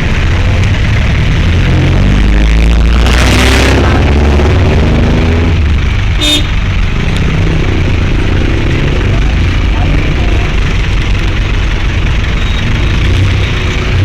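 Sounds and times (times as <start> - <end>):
vehicle engine running and revving: 0.0 - 14.0.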